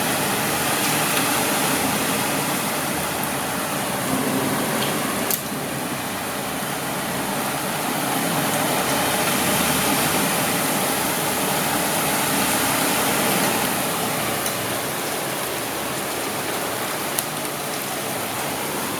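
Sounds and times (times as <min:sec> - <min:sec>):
heavy rain pouring: 0:00.0 - 0:18.9.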